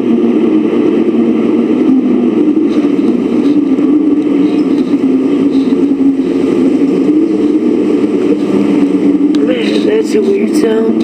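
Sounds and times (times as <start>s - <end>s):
rushing wind-like sound: 0.0s - 10.1s
deep wavering drone: 0.0s - 11.0s.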